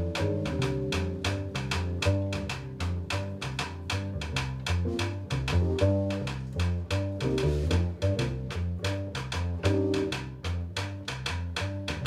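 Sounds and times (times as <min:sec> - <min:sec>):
drum kit: 0:00.0 - 0:12.0
guitar: 0:00.0 - 0:12.0
plucked double bass: 0:00.0 - 0:12.0.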